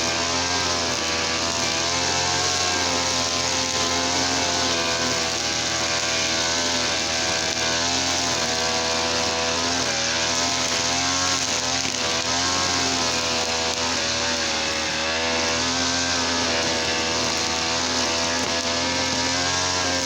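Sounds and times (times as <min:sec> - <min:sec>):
brush cutter engine running: 0:00.0 - 0:20.0.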